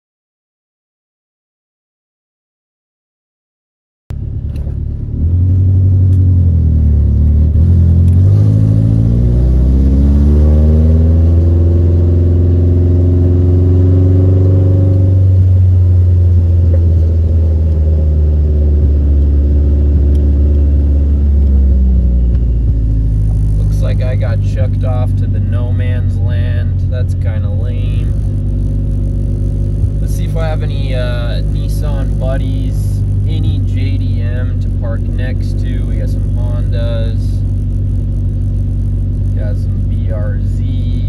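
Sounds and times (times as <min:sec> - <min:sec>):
car engine drone from inside: 0:04.1 - 0:41.0.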